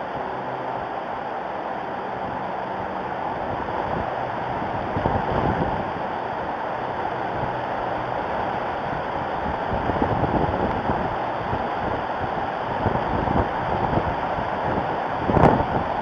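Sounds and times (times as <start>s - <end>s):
wind buffeting microphone: 2.2s - 16.0s.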